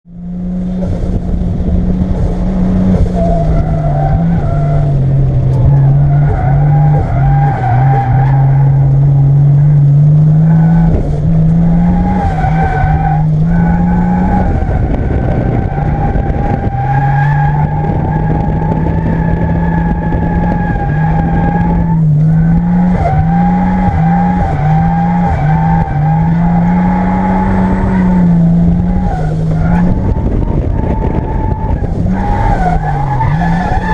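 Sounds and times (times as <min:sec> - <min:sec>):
car engine running hard: 0:00.1 - 0:33.9.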